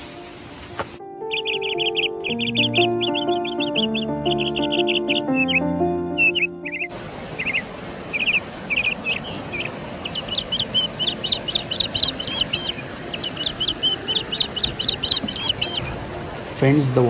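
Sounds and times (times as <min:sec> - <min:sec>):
birds chirping: 0:00.0 - 0:17.0
steady background hiss: 0:00.0 - 0:17.0
rapidly repeated bird notes: 0:00.1 - 0:16.0.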